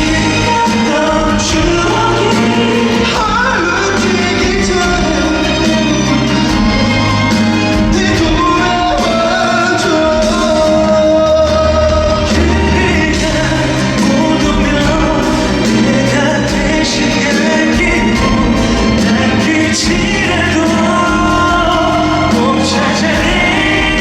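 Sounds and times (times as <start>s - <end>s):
live band playing: 0.0s - 24.0s
man singing: 0.0s - 24.0s.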